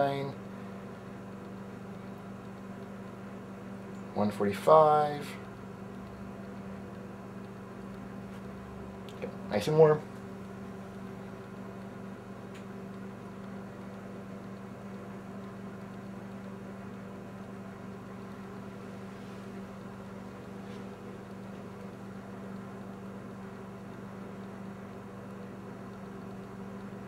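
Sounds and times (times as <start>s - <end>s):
steady low hum: 0.0s - 27.0s
faint ticks: 0.5s - 4.1s, 5.3s - 9.3s, 10.2s - 18.8s, 19.6s - 27.0s.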